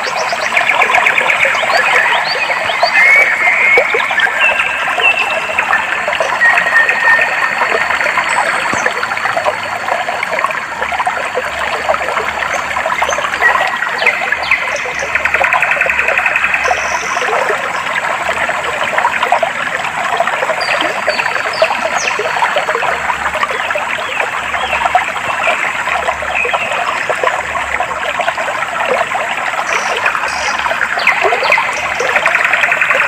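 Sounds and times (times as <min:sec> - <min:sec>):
stream trickling and babbling: 0:00.0 - 0:33.0.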